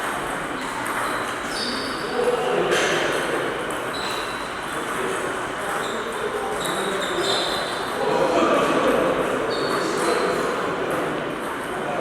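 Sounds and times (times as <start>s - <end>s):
background chatter of voices: 0.3s - 12.0s.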